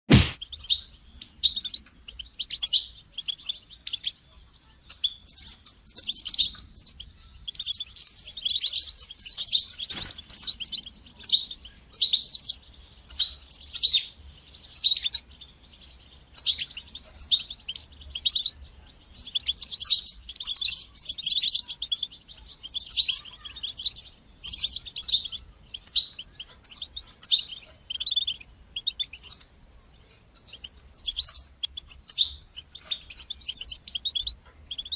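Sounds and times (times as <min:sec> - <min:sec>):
finch twittering song: 0:00.1 - 0:34.9.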